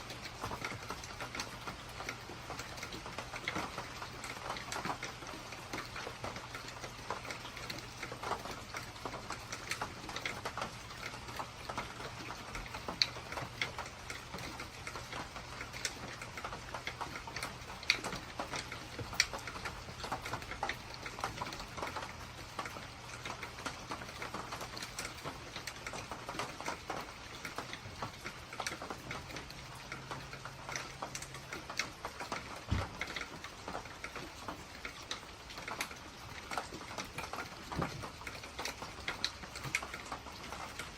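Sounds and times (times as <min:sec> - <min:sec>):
rain ticking on hard surface: 0:00.0 - 0:40.9.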